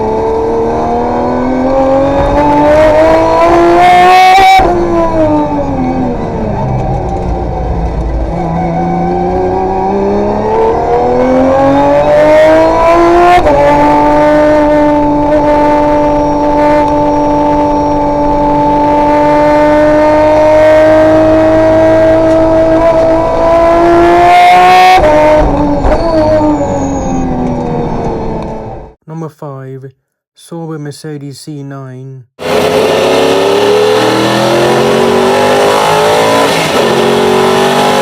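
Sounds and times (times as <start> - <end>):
race car engine accelerating: 0.0 - 28.9, 32.4 - 38.0.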